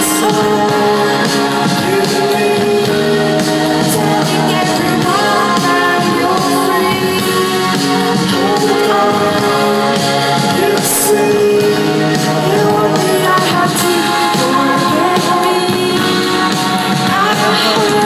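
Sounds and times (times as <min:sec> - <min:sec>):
live band playing: 0:00.0 - 0:18.0
woman singing: 0:00.0 - 0:18.0.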